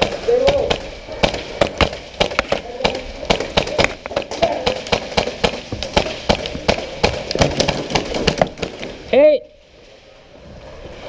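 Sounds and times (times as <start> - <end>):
airsoft guns firing: 0.0 - 9.0.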